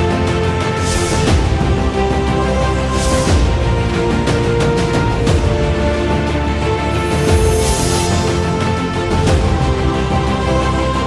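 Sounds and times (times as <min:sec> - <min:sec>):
background music with synth tones: 0:00.0 - 0:11.0.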